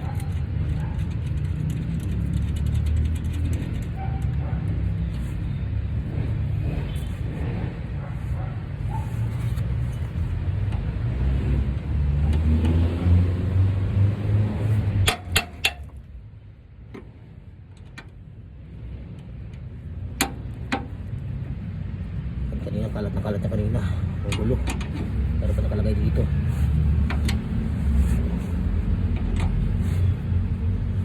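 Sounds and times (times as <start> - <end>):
low vehicle rumble: 0.0 - 31.0.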